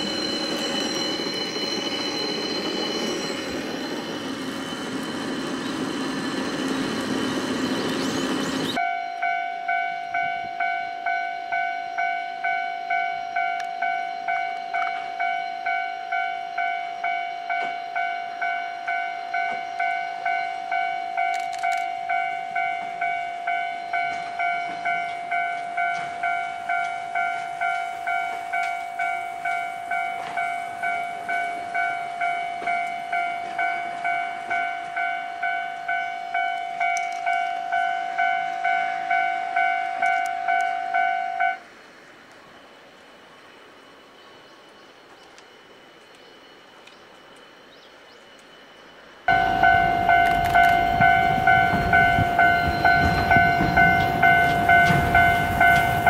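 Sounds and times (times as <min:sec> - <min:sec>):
level crossing warning bell: 0:00.0 - 0:41.6, 0:49.3 - 0:56.0
cable car passing: 0:00.0 - 0:56.0.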